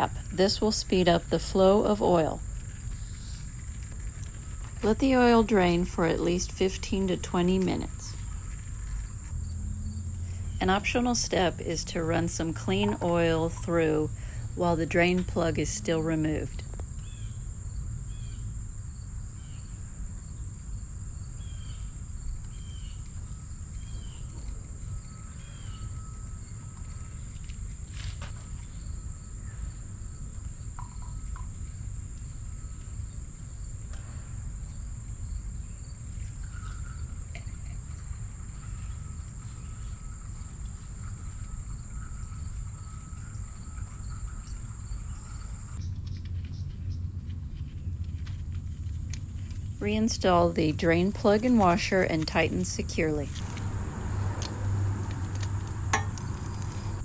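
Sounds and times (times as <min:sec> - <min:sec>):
crickets trilling: 0:00.0 - 0:45.8
low outdoor rumble: 0:00.0 - 0:57.0.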